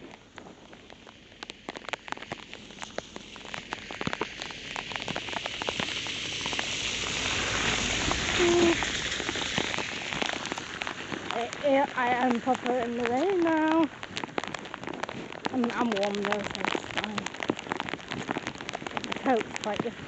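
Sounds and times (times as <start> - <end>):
raindrops ticking on camera: 0.0 - 20.0
steady rain hiss: 0.0 - 20.0.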